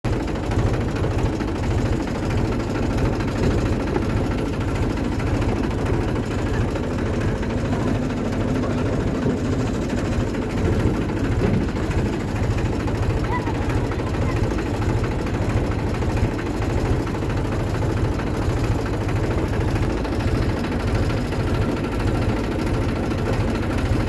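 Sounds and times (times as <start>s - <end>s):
tractor engine running: 0.1s - 24.0s.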